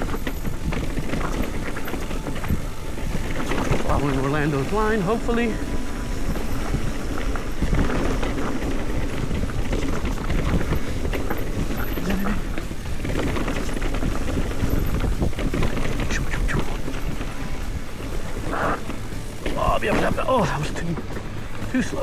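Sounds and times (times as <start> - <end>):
bike knocks and rattles: 0.0 - 22.0
tyres crunching over dirt and rocks: 0.0 - 22.0
wind rushing over microphone: 0.0 - 22.0.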